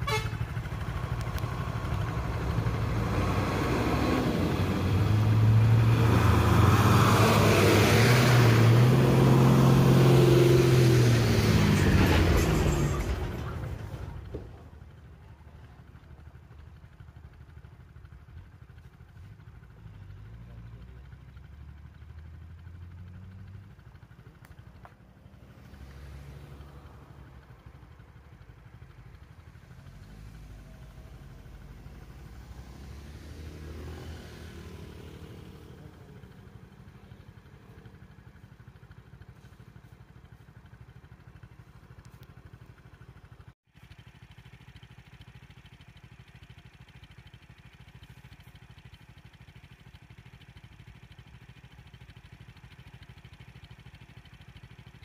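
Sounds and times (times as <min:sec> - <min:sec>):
low engine rumble: 0:00.0 - 0:55.0
vehicle passing slowly: 0:00.0 - 0:55.0.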